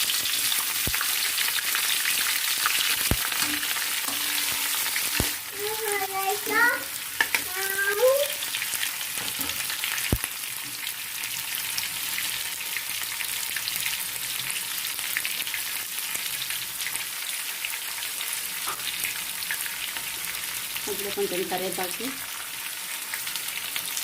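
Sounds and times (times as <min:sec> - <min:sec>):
onions frying in hot oil: 0:00.0 - 0:24.0.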